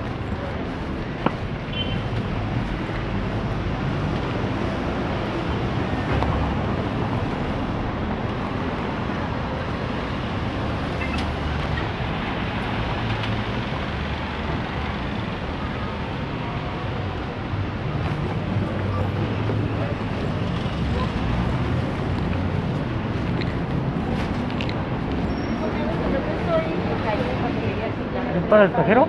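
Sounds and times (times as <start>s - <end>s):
cars passing and idling: 0.0s - 29.0s.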